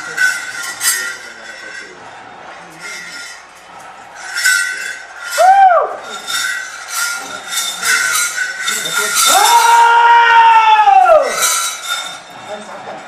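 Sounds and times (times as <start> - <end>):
sharp metallic clinks: 0.0 - 2.0, 2.8 - 10.5, 11.2 - 12.8.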